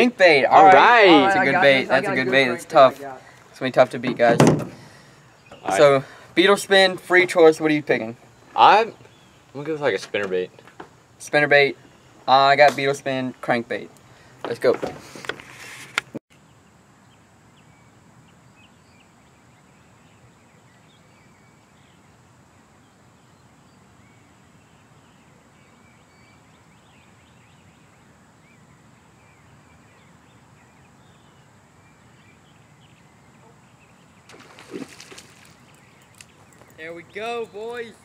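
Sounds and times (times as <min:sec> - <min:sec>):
low background hiss: 0:00.0 - 0:14.7, 0:16.4 - 0:38.0
distant birds chirping: 0:00.0 - 0:38.0.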